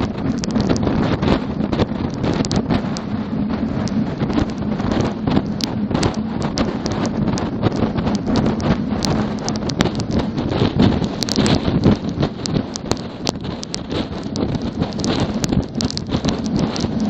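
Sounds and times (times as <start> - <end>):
steady low drone: 0.0 - 17.0
wind buffeting microphone: 0.0 - 17.0.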